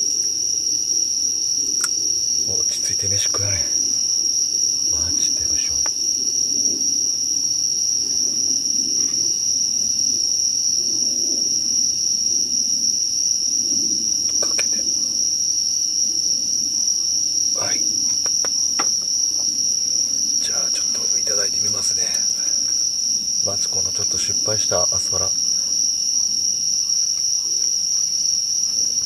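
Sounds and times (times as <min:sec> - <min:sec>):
night insects trilling: 0:00.0 - 0:29.0.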